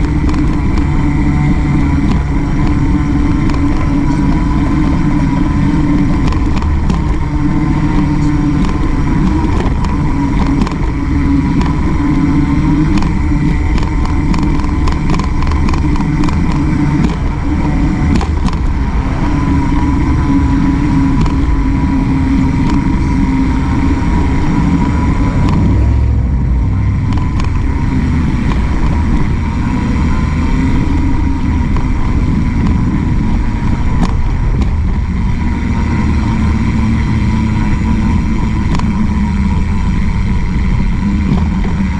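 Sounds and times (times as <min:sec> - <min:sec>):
bike clicks and rattles: 0:00.0 - 0:25.7, 0:27.0 - 0:41.9
bike tyres humming on concrete: 0:00.0 - 0:41.9
passing traffic rumble: 0:00.0 - 0:41.9.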